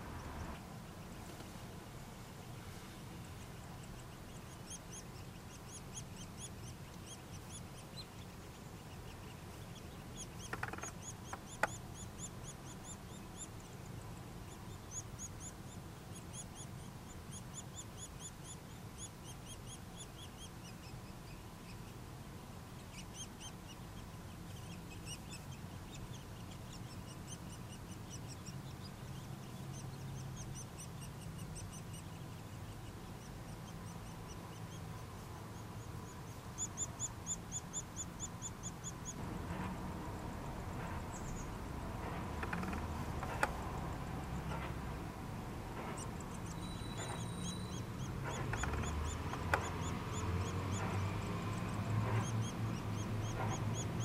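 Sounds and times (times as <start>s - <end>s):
nestlings begging calls: 0.0s - 22.0s, 22.7s - 54.0s.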